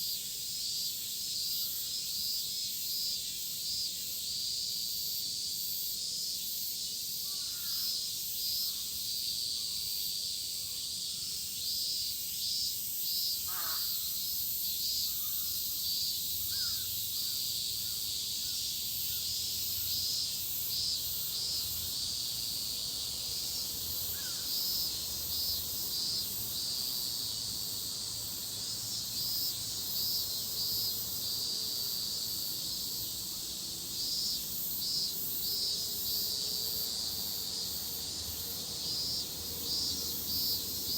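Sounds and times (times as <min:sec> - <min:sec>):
cicadas shrilling: 0:00.0 - 0:40.9.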